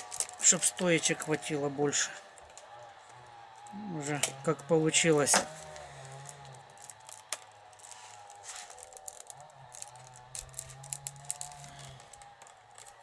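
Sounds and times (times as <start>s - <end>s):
sticks clicking and creaking: 0.0s - 13.0s.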